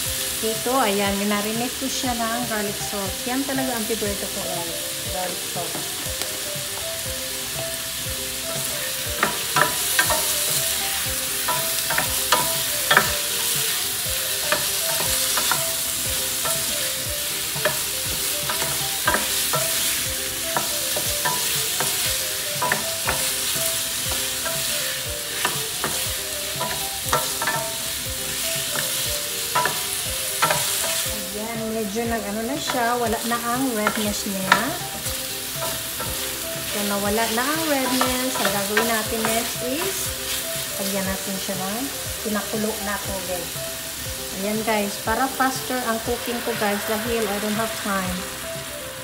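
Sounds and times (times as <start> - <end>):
chicken and onion sizzling in oil: 0.0 - 49.0.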